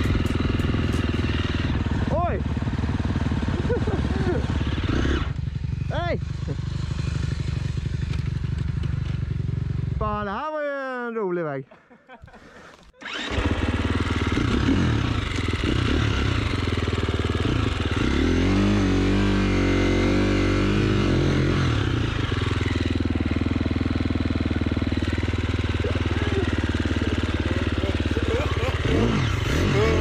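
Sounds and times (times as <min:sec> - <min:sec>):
dirt bike engine revving: 0:00.0 - 0:10.0, 0:13.0 - 0:30.0.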